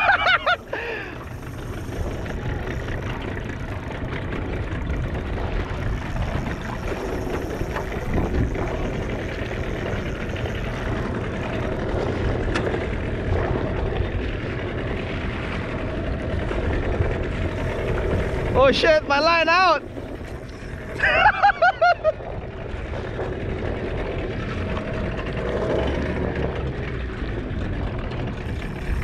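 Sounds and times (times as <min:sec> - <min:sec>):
boat engine idling: 0:00.0 - 0:29.0
water noise: 0:00.0 - 0:29.0
wind: 0:00.0 - 0:29.0.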